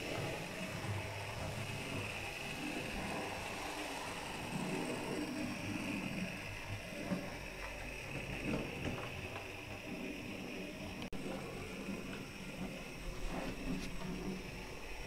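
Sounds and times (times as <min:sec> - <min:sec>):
model train wheels rolling on rails: 0:00.0 - 0:15.0
small electric motor whirring: 0:00.0 - 0:15.0.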